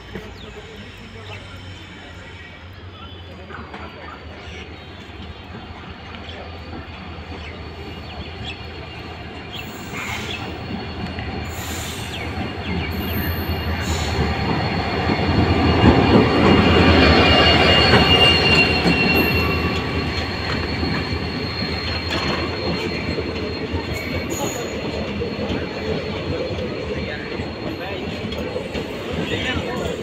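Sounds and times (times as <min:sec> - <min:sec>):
diesel locomotive engine: 0:00.0 - 0:30.0
train coaches rolling: 0:00.0 - 0:30.0
wheels and brakes squealing: 0:00.0 - 0:30.0.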